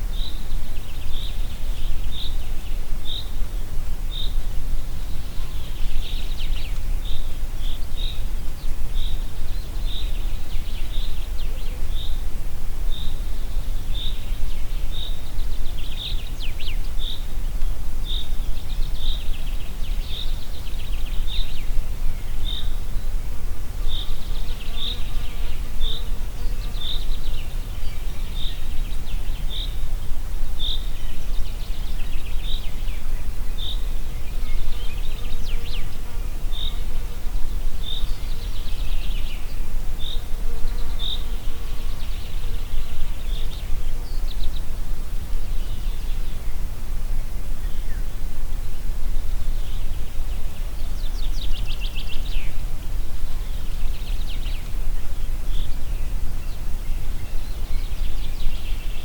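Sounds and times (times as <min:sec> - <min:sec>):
wind in the forest: 0:00.0 - 0:59.0.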